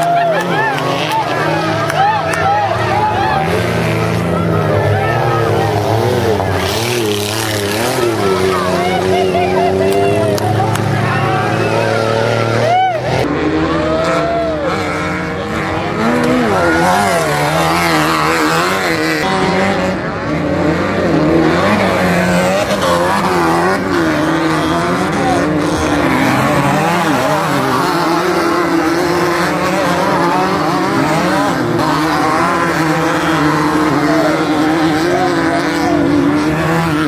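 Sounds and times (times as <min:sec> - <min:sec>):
buggy engines revving: 0:00.0 - 0:37.0.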